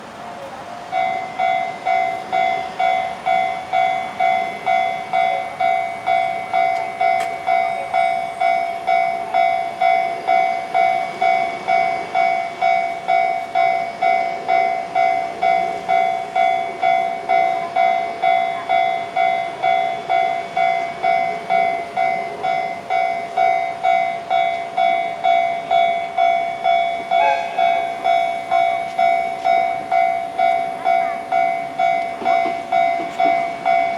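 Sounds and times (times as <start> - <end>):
level-crossing electronic bell: 0.9 - 33.9.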